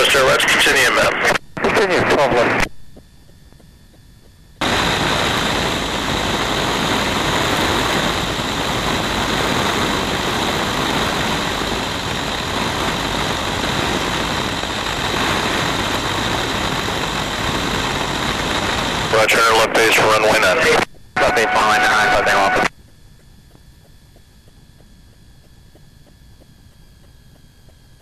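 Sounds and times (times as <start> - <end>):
propeller plane engine running: 0.0 - 28.0.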